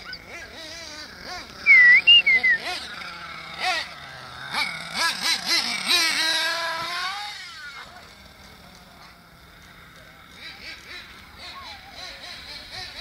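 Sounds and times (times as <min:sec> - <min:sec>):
model engine revving: 0:00.0 - 0:13.0.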